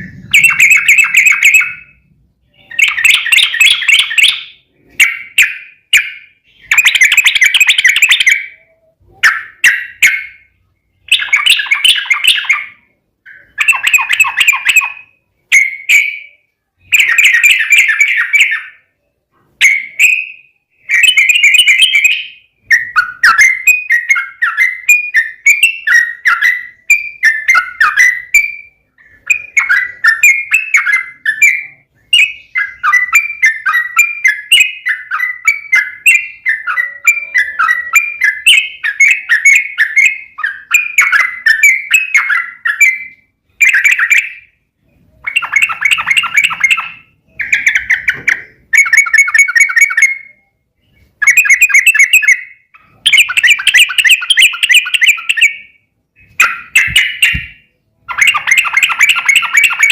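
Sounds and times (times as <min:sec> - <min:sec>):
bulbul singing warbled phrases: 0:00.0 - 0:18.9, 0:19.6 - 0:50.4, 0:51.2 - 0:59.9.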